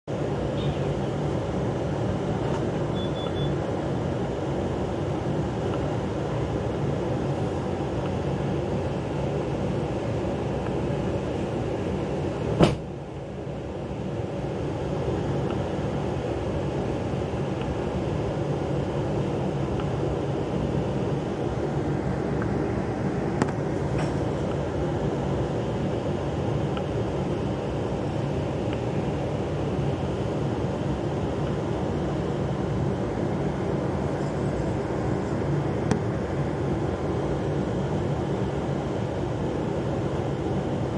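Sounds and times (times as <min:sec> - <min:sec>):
low rumbling background noise: 0:00.0 - 0:40.9.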